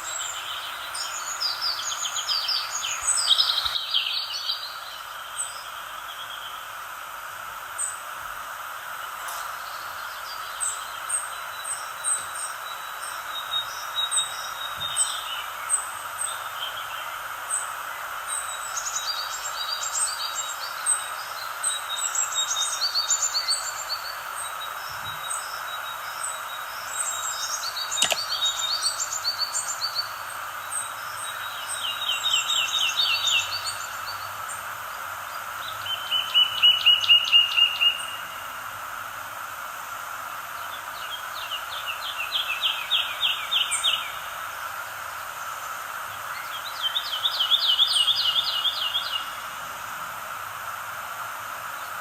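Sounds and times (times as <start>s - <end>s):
songbirds chirping and trilling: 0.0s - 52.0s
steady background hiss: 0.0s - 52.0s.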